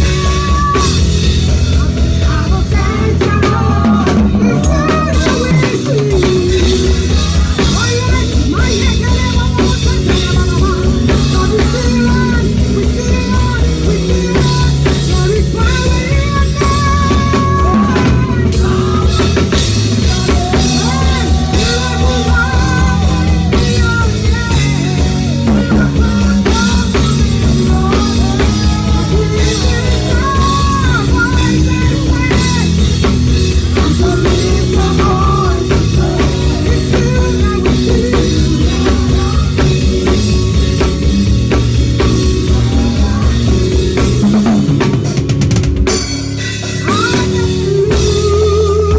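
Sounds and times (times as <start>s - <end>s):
person singing: 0.0s - 44.9s, 46.7s - 48.9s
bass line: 0.0s - 48.9s
drum kit beat: 0.0s - 48.9s.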